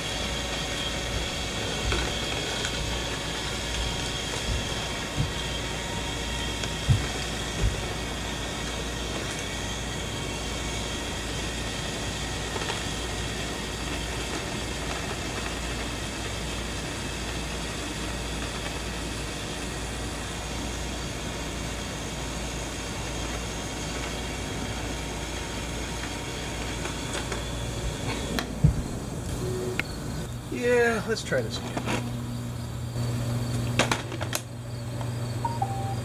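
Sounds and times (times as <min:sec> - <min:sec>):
steady mechanical hum with hiss: 0:00.0 - 0:36.0.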